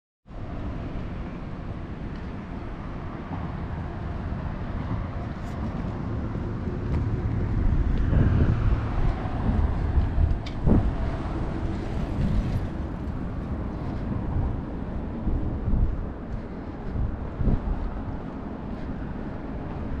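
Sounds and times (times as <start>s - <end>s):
road traffic passing: 0.3s - 20.0s.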